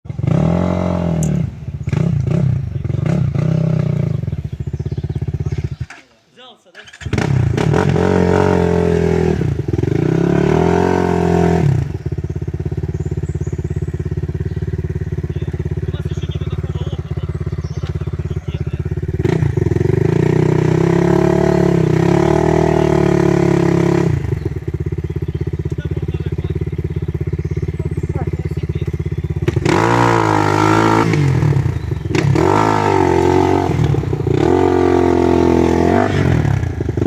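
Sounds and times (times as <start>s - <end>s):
dirt bike engine revving: 0.1s - 6.1s, 6.8s - 37.0s
dirt bike engine idling: 0.1s - 37.0s.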